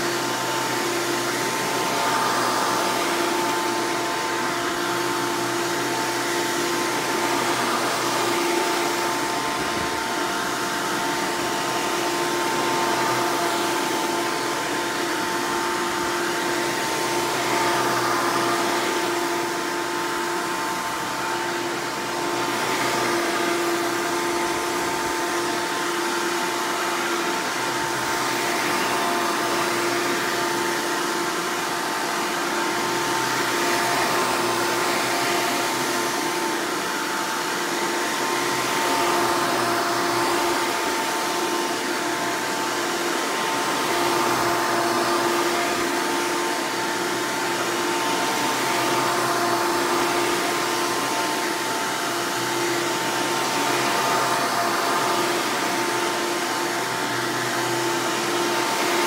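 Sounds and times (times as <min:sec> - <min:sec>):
upright vacuum cleaner on carpet: 0:00.0 - 0:59.0.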